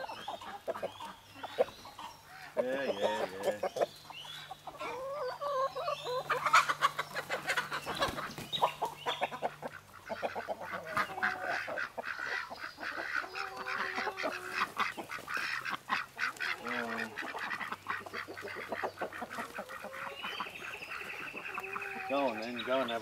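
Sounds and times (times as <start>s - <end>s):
chickens clucking: 0.0s - 23.0s
ducks quacking: 0.0s - 23.0s.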